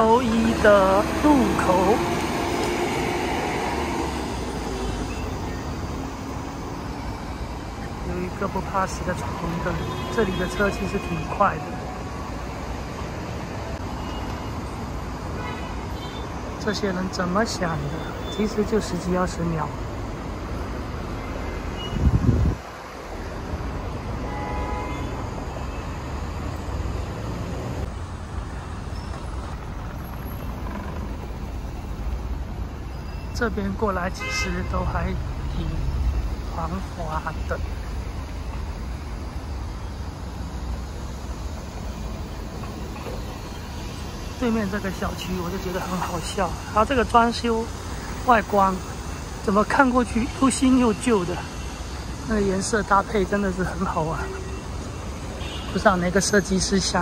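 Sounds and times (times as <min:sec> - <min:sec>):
rumble of passing vehicles: 0:00.0 - 0:57.0.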